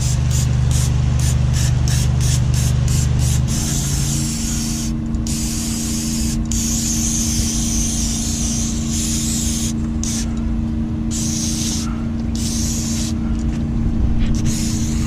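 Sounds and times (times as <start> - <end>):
aerosol can spraying: 0.0 - 10.3, 11.1 - 13.2, 14.3 - 15.0
low mechanical hum: 0.0 - 15.0.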